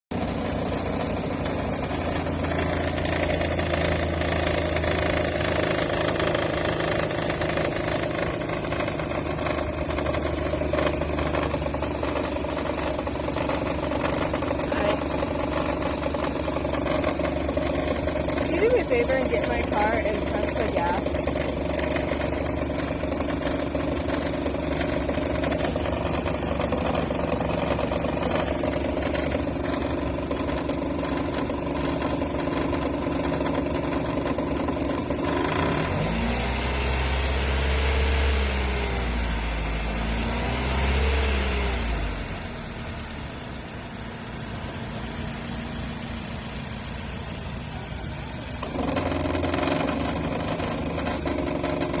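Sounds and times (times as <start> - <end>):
car engine revving: 0.1 - 43.5, 48.4 - 52.0.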